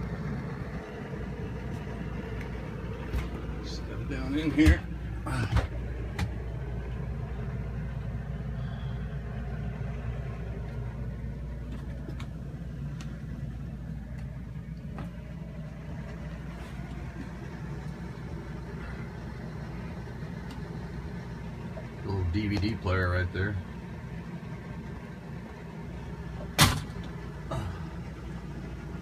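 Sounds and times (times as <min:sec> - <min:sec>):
air conditioning: 0:00.0 - 0:29.0
boat machinery humming: 0:00.0 - 0:29.0.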